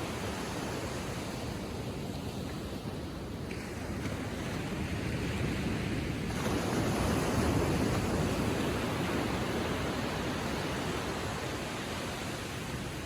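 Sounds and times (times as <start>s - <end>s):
small waves washing onto shore: 0.0s - 13.0s.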